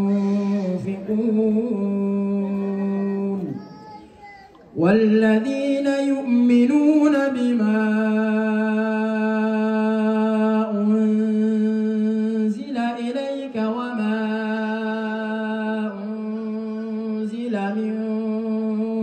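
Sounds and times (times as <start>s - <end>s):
man reciting melodically into microphone: 0.0s - 19.0s.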